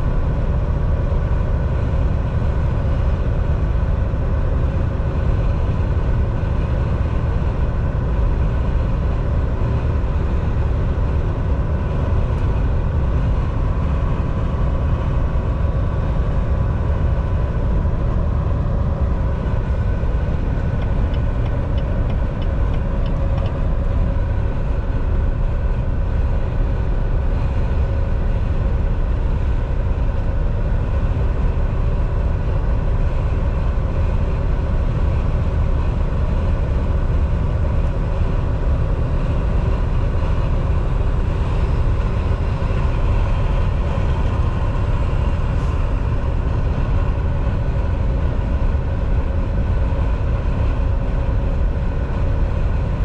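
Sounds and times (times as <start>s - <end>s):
truck engine drone: 0.0s - 53.0s.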